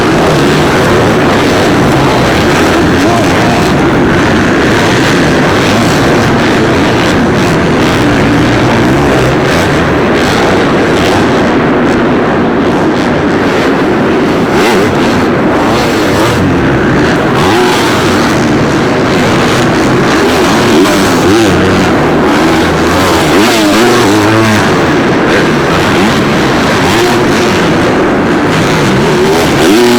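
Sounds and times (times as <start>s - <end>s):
dirt bike engines revving: 0.0s - 29.9s.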